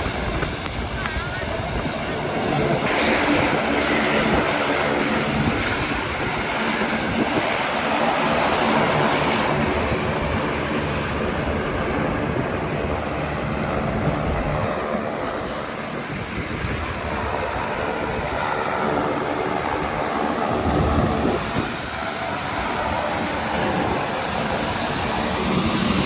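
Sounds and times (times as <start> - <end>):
propeller airplane engines droning: 0.0 - 26.0.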